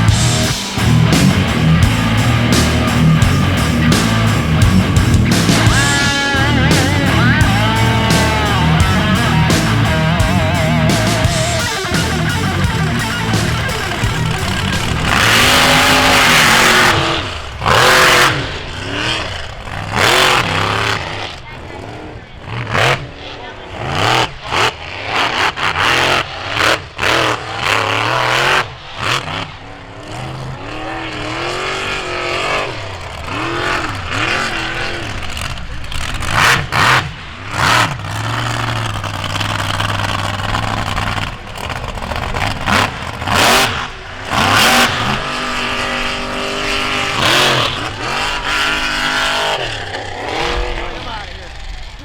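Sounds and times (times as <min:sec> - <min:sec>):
truck engines revving: 0:00.0 - 0:52.0.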